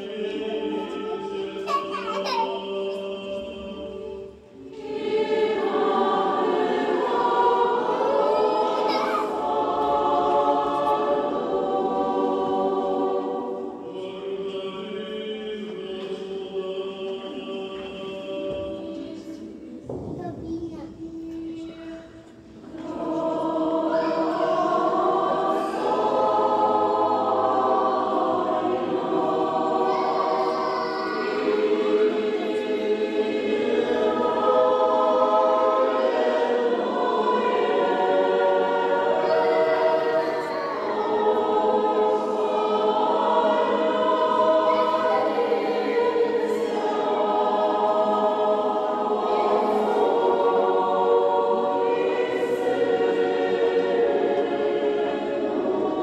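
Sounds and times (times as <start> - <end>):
choir singing liturgical chant: 0.0 - 56.0.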